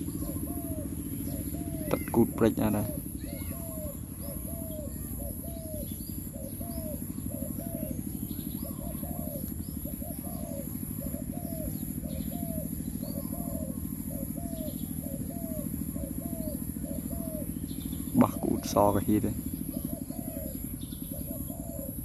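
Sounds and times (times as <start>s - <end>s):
dove cooing: 0.0s - 22.0s
small birds chirping: 0.0s - 22.0s.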